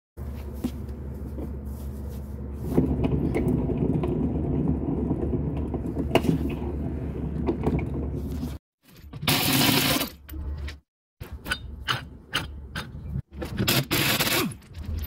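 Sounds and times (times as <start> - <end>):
wheel hub bearing rumbling: 2.4 - 15.0.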